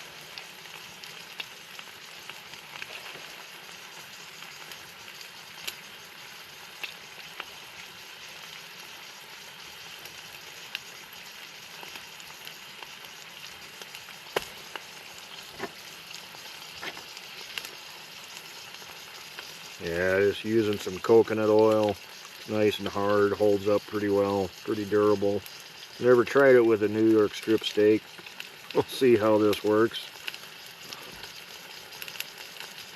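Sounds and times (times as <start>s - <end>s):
steak sizzling in a pan: 0.0s - 32.9s
oil pops and crackles: 0.1s - 5.9s, 6.7s - 7.6s, 9.9s - 24.1s, 25.4s - 32.9s.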